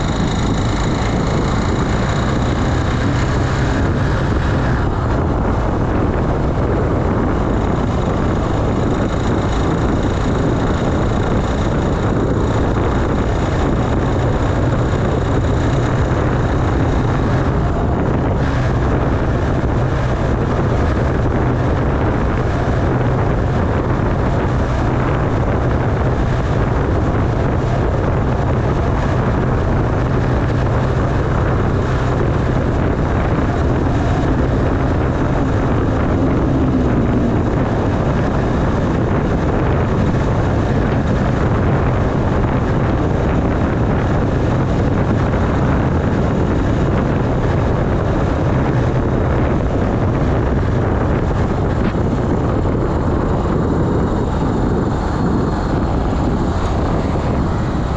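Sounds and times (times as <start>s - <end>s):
scooter engine running: 0.0s - 57.9s
wind noise on microphone: 0.0s - 57.9s.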